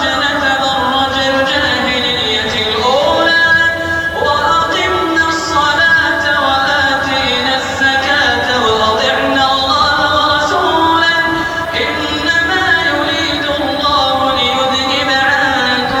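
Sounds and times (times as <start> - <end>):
melodic recitation by one voice: 0.0 - 16.0.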